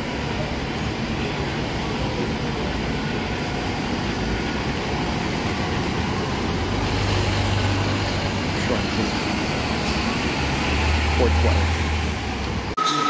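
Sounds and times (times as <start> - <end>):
diesel bus engine rumble: 0.0 - 12.8
tyre and road noise: 0.0 - 12.9.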